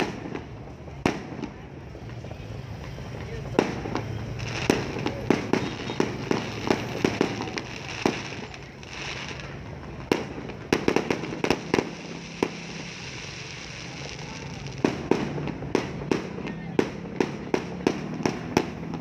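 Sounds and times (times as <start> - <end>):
fireworks bangs and pops: 0.0 - 19.0.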